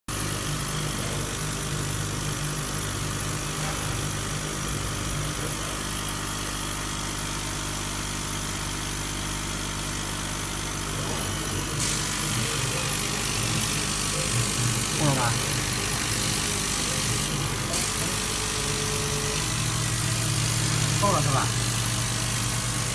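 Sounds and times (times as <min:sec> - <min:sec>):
machine humming: 0:00.1 - 0:22.9.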